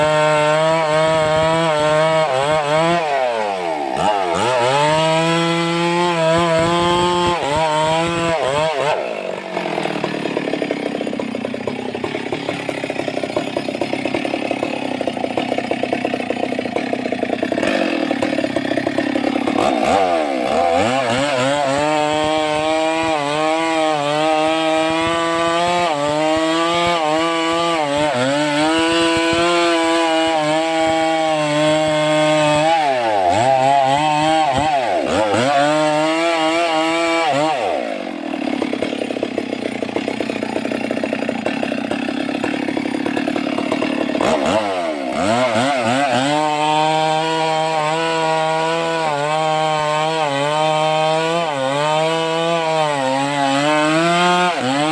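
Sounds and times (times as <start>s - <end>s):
chainsaw revving: 0.0s - 54.9s.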